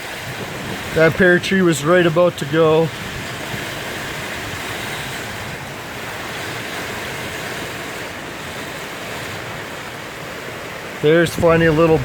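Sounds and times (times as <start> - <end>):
strong storm wind rushing: 0.0 - 12.0.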